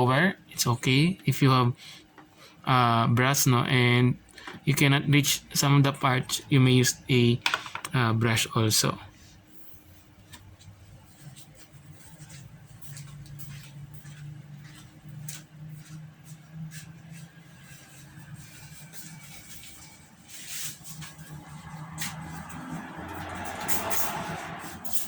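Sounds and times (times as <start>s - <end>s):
low steady hum: 0.0s - 22.6s.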